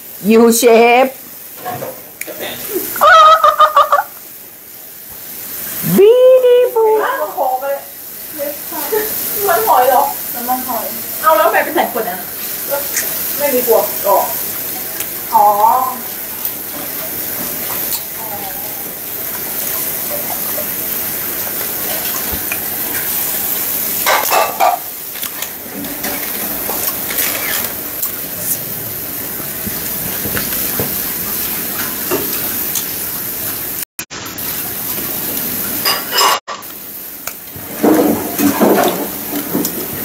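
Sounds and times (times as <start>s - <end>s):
steady hiss: 0.0s - 33.8s.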